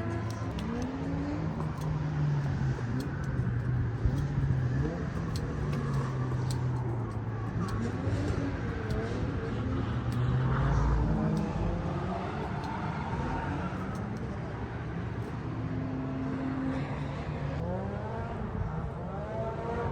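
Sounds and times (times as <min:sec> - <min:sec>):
vehicle engines humming: 0:00.0 - 0:19.9.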